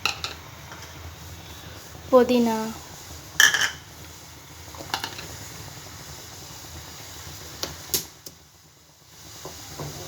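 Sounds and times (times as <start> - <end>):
water boiling in a pot: 0.0 - 10.0.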